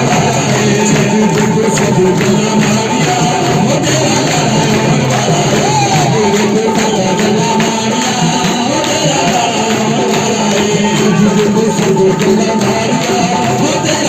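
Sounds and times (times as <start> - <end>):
jingling percussion: 0.0 - 14.0
worship band music: 0.0 - 14.0.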